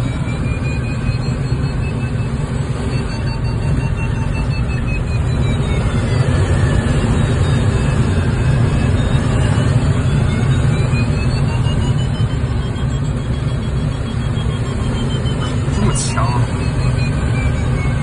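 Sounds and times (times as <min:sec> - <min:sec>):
air rushing around cockpit: 0:00.0 - 0:18.0
variometer tones: 0:00.0 - 0:18.0.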